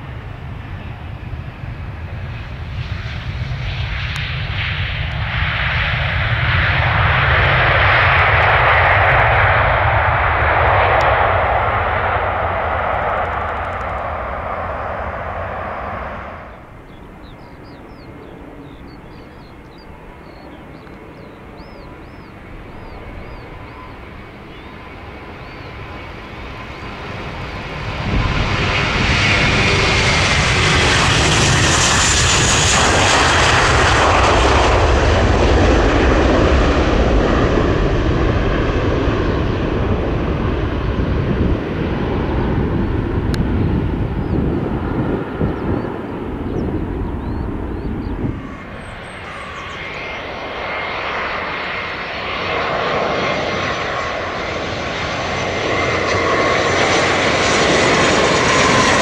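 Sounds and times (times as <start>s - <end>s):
jet airliner engine roar: 0.0s - 59.0s
jet engine whine sliding down: 0.0s - 59.0s.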